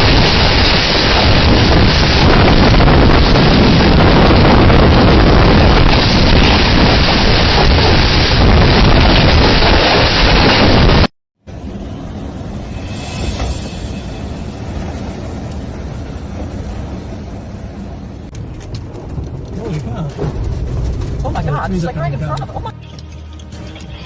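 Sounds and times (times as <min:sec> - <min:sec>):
storm wind on microphone: 0:00.0 - 0:22.7.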